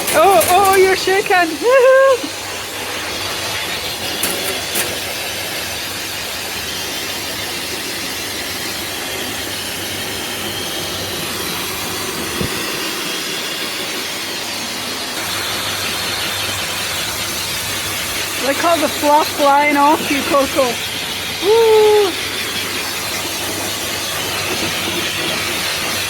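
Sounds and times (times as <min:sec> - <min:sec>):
blow dryer blowing air: 0:00.0 - 0:26.0.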